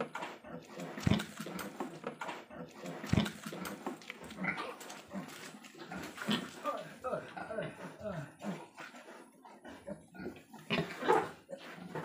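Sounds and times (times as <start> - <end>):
pigs grunting and squeaking: 0.0 - 12.0.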